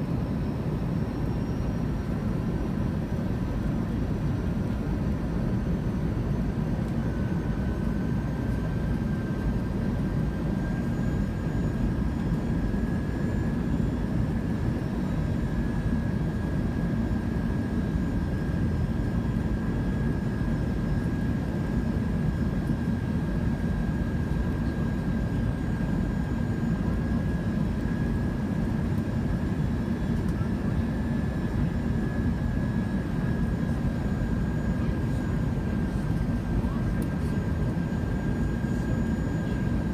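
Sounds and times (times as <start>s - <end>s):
engine and airflow rumble: 0.0s - 39.9s.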